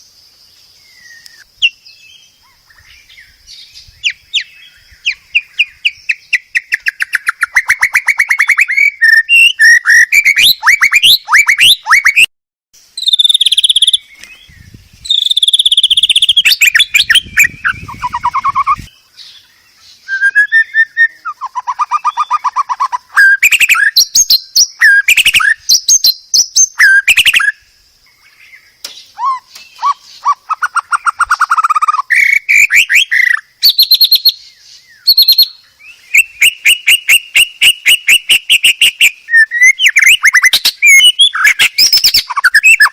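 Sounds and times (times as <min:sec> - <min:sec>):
songbird singing trills and whistles: 0:00.7 - 0:12.3, 0:12.9 - 0:42.9.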